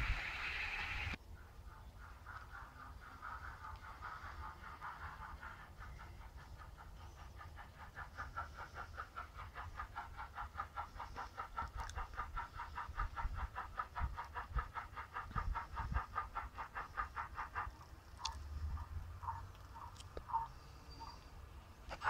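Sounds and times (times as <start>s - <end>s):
model steam train chuffs: 0.0s - 22.0s.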